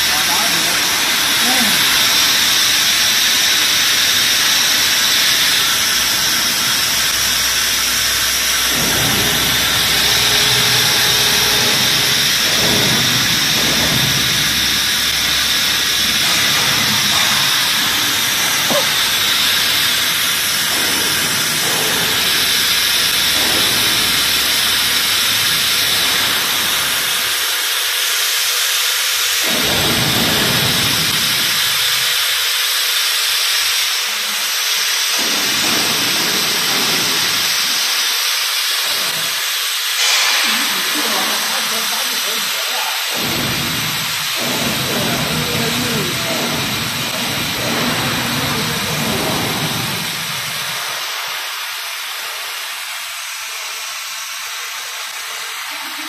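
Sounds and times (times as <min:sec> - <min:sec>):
frying machine hissing: 0:00.0 - 0:56.0.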